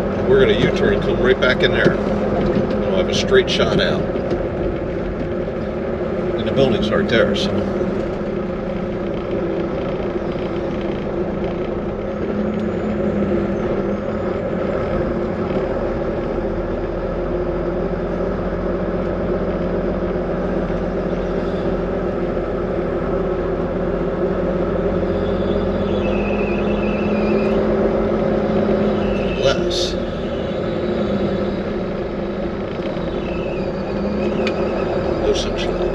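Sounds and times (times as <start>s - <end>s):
truck diesel engine droning: 0.0s - 35.9s.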